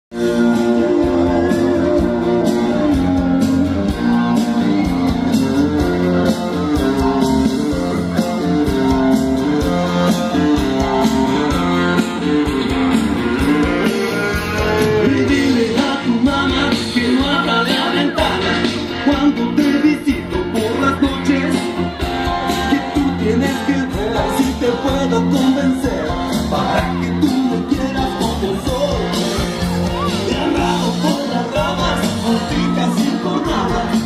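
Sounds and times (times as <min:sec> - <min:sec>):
guitar: 0:00.1 - 0:34.0
person singing: 0:00.2 - 0:34.0
steady beat: 0:00.2 - 0:34.0.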